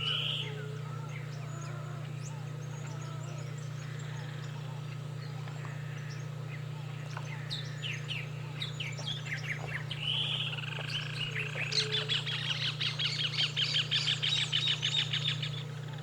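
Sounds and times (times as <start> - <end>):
steady low hum: 0.0 - 16.0
wild birds chirping: 0.0 - 16.0.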